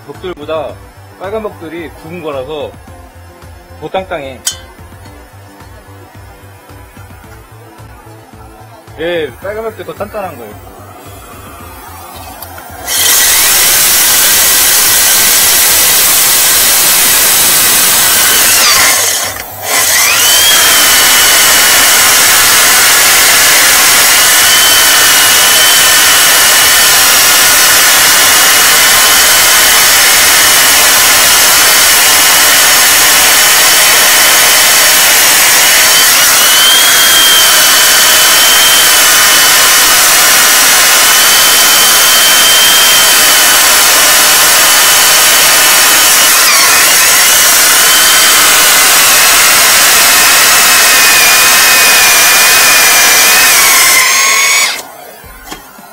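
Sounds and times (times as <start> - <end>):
core drill cutting brick: 3.8 - 5.2, 9.0 - 55.9
vacuum cleaner sucking: 9.4 - 55.9.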